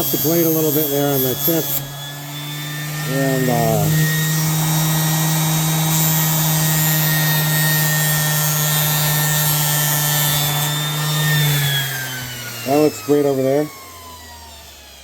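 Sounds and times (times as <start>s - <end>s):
orbital sander grinding metal: 0.0s - 15.0s.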